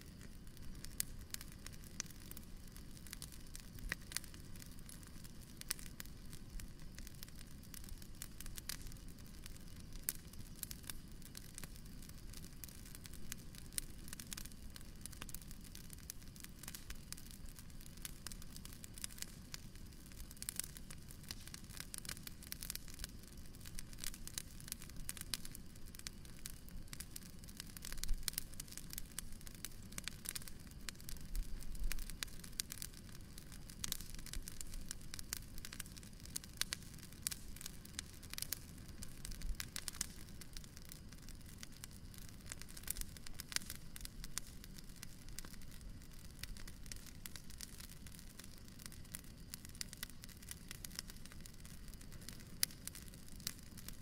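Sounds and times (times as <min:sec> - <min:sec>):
bonfire crackling: 0:00.0 - 0:54.0.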